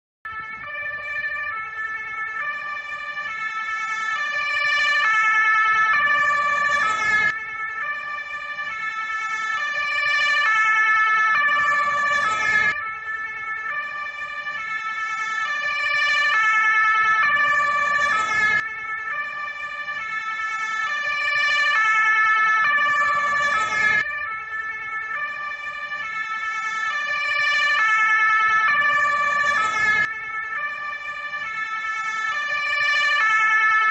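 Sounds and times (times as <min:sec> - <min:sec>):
fire engine two-tone siren: 0:00.2 - 0:33.9.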